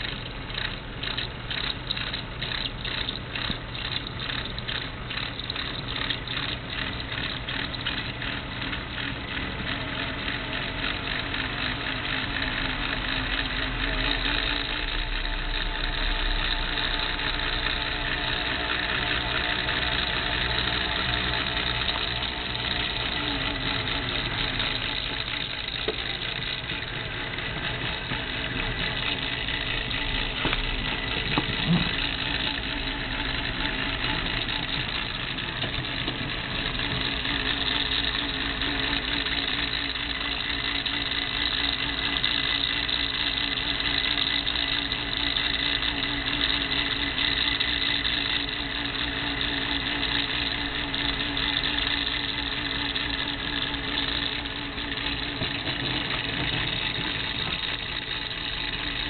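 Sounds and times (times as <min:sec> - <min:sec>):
small motor whirring and humming: 0:00.0 - 0:59.0.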